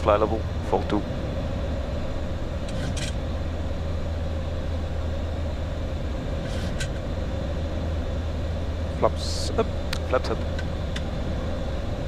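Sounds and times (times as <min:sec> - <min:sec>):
aircraft cockpit drone: 0:00.0 - 0:12.0.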